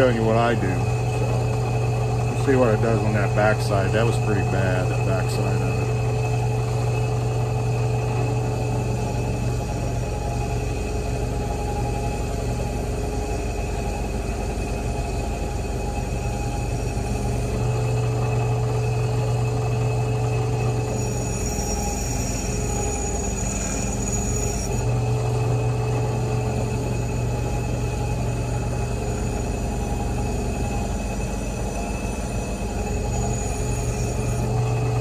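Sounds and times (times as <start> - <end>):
drill press humming: 0.0 - 35.0.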